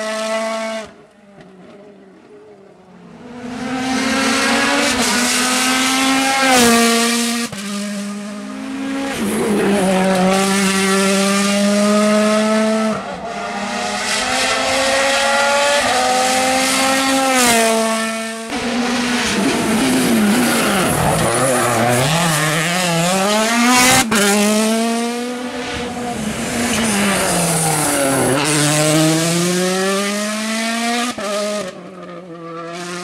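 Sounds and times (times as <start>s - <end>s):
rally car engine revving hard: 0.0s - 1.0s, 3.2s - 33.0s.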